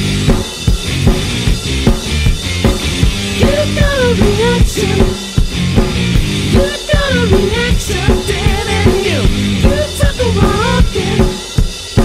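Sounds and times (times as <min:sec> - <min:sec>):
sliding melodic lead line: 0:00.0 - 0:11.5
rock song with drum beat: 0:00.0 - 0:12.0.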